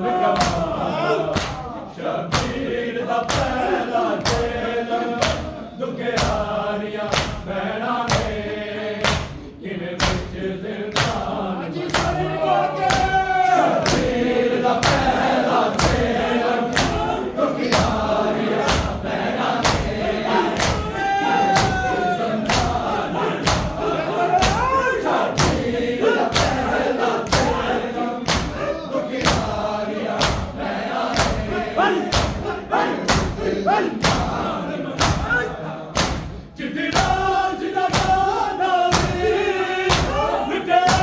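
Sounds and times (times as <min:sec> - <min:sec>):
men's voices chanting: 0:00.0 - 0:41.0
people slapping chests in unison: 0:00.0 - 0:41.0.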